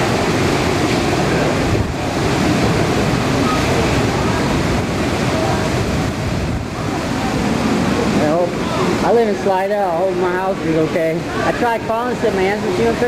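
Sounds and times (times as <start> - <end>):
storm wind and heavy rain: 0.0 - 13.0
wind buffeting microphone: 0.0 - 13.0
faint voices: 2.4 - 13.0.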